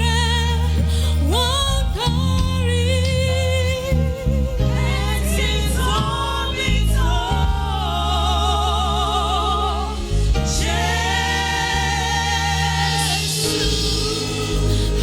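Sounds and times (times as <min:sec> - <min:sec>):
instrumental accompaniment with bass: 0:00.0 - 0:15.0
person singing with vibrato: 0:00.0 - 0:15.0.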